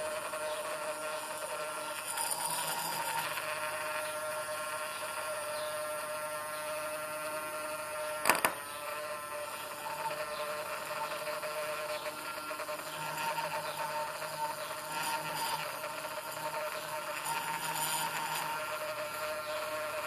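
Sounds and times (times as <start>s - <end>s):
milk frother whirring: 0.0s - 20.0s.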